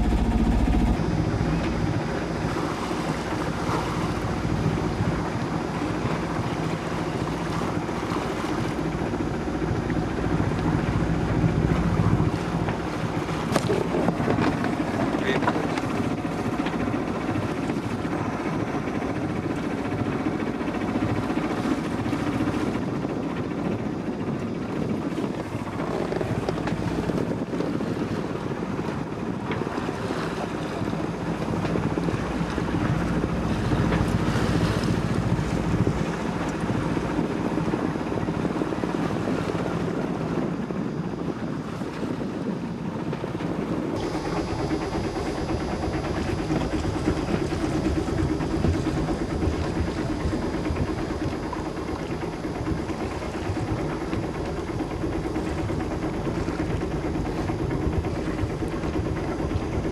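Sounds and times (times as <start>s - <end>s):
boat motor running: 0.0s - 59.9s
water rushing along hull: 0.0s - 59.9s
wind buffeting microphone: 0.0s - 59.9s.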